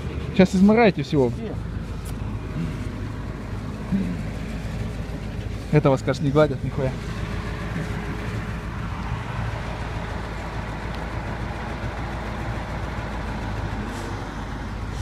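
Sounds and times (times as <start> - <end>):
heavy truck engine droning: 0.0 - 15.0.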